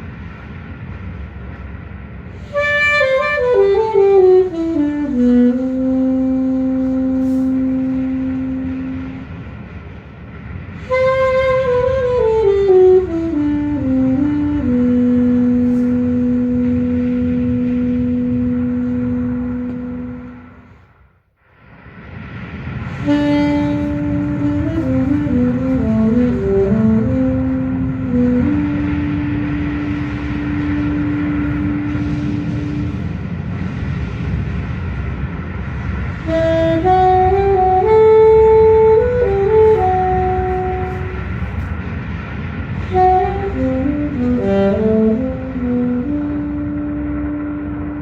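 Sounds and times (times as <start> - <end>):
alto saxophone long low note: 2.4 - 9.6, 10.8 - 20.8, 22.8 - 33.7, 36.2 - 48.0
hazy backing track: 2.4 - 20.7, 22.8 - 33.4, 36.2 - 48.0.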